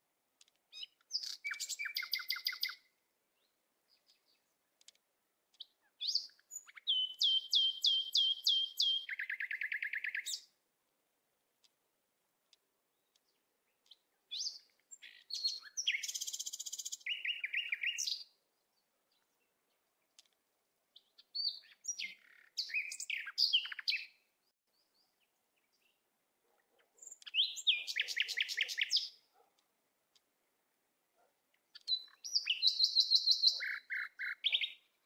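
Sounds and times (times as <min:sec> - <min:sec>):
songbird chirps and trills: 0:00.0 - 0:35.0.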